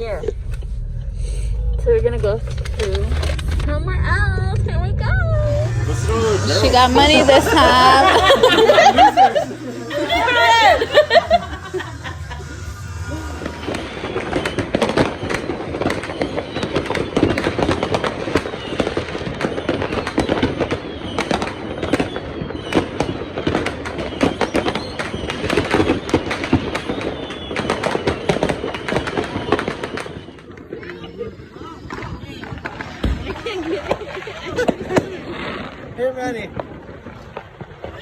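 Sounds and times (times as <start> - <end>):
firecrackers crackling pops: 0.0 - 38.0.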